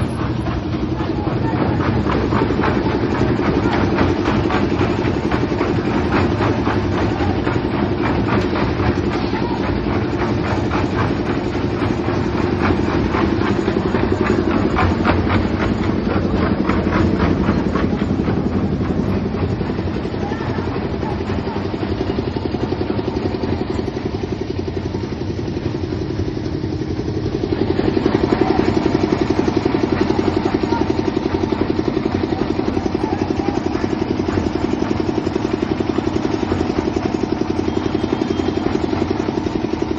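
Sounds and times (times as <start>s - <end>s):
engine running with clatter: 0.0s - 39.9s.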